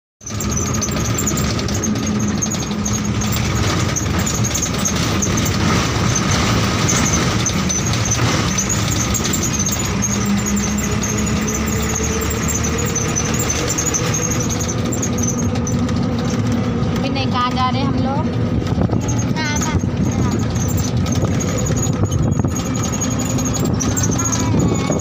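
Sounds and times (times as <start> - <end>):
bus engine rumble and road noise: 0.2 - 25.0.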